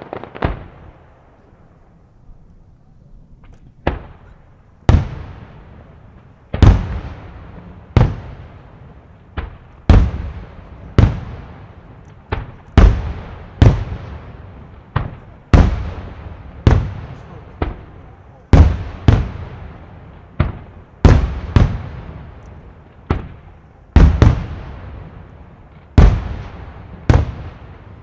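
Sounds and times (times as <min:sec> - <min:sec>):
fireworks bursting with echo: 0:00.0 - 0:02.0, 0:03.4 - 0:28.0.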